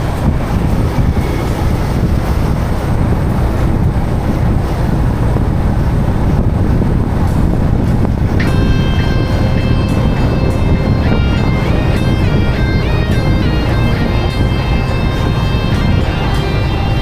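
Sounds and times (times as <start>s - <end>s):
motorcycle riding noise: 0.0s - 17.0s
wind rushing over microphone: 0.0s - 17.0s.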